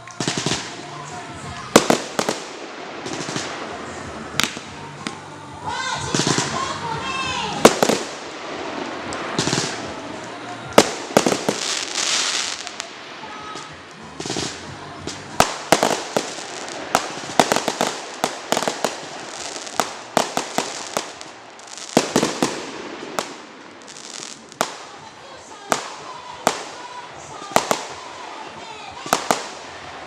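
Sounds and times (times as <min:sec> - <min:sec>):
fireworks banging: 0:00.0 - 0:30.0
hissing crackle: 0:00.0 - 0:30.0.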